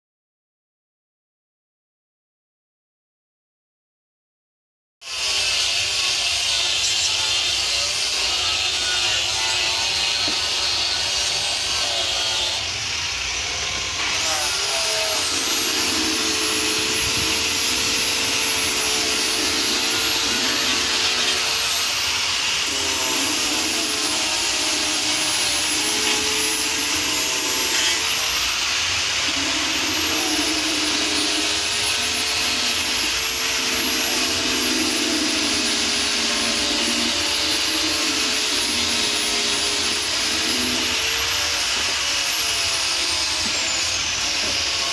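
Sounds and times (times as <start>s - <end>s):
power tool motor whining: 5.2s - 44.9s.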